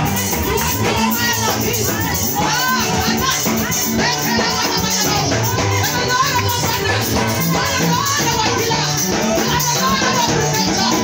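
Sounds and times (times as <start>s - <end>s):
live gospel band playing: 0.0s - 11.0s
woman singing into microphone: 0.0s - 11.0s.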